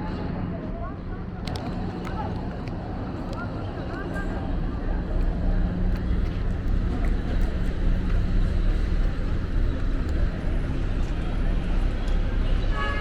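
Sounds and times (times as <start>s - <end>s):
vehicle engines rumbling: 1.2s - 13.0s.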